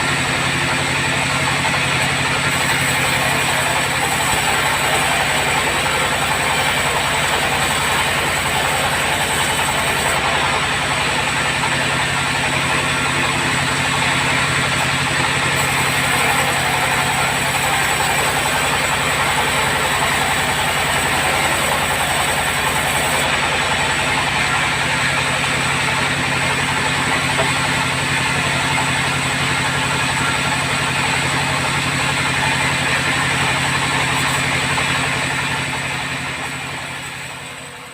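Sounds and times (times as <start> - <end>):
bandsaw running: 0.0 - 37.9.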